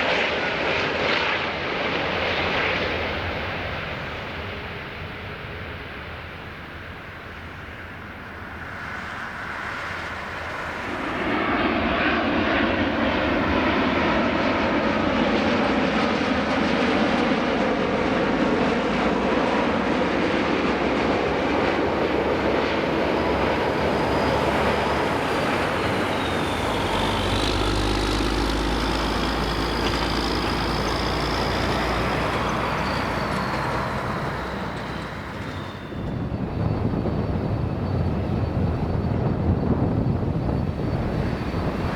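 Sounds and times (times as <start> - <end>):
high jet engine whine: 0.0 - 41.9
jet engine rumble: 0.0 - 41.9.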